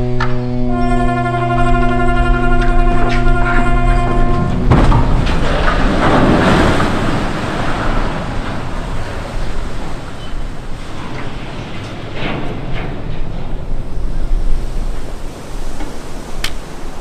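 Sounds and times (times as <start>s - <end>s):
rushing surging water: 0.0s - 12.1s, 13.2s - 17.0s.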